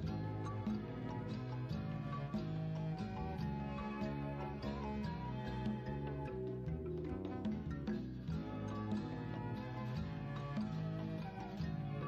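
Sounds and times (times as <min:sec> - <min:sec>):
kalimba melody: 0:00.0 - 0:11.8.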